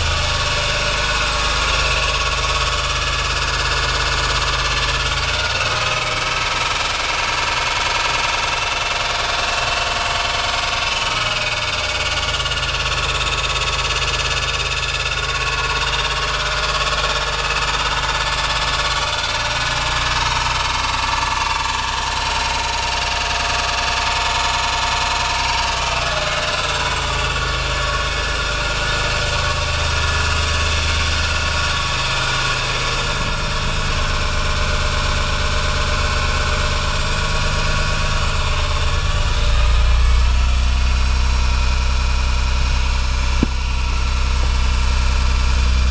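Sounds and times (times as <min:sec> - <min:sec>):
car engine idling with abnormal noise: 0:00.0 - 0:45.9.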